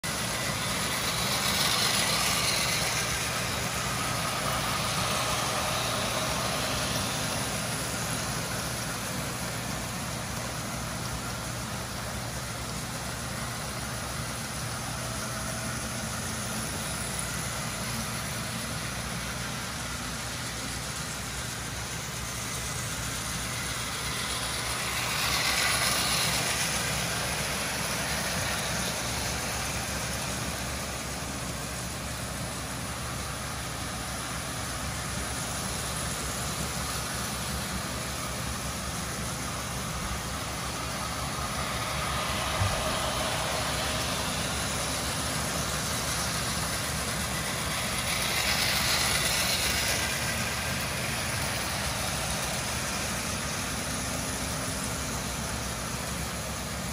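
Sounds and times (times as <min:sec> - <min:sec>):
toy trains rumbling on metal rails: 0:00.0 - 0:56.9.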